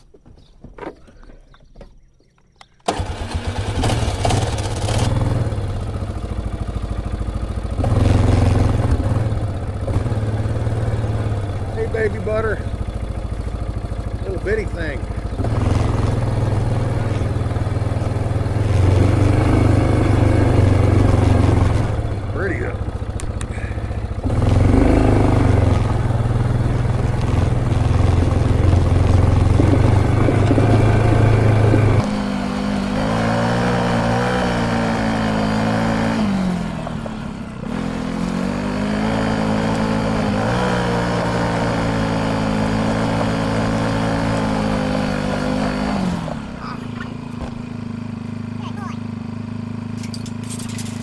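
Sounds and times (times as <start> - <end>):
utility vehicle engine driving: 0.0 - 51.0.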